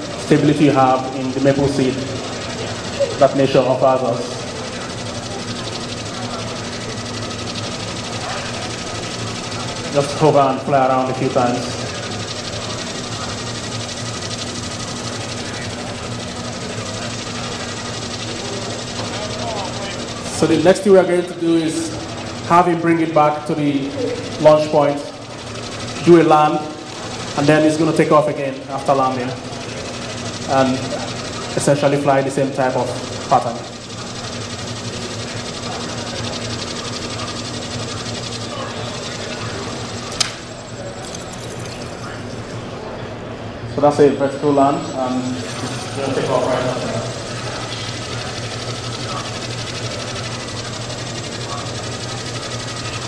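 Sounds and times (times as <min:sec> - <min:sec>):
mechanical buzz with low hum: 0:00.0 - 0:53.0.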